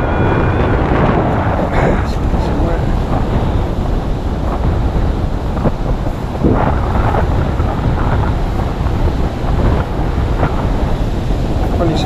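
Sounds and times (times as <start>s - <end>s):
surf: 0.0s - 12.0s
wind buffeting microphone: 0.0s - 12.0s.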